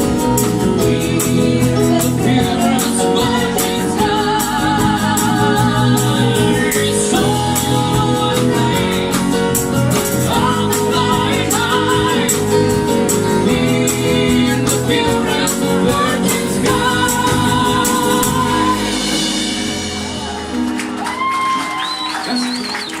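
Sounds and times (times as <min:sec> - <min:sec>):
steady percussion: 0:00.0 - 0:22.3
person singing: 0:00.0 - 0:22.4
acoustic instruments: 0:00.0 - 0:23.0.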